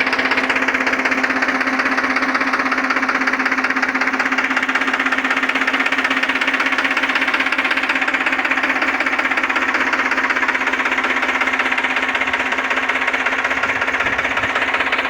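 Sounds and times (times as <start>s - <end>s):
tractor diesel engine knocking: 0.0s - 15.0s.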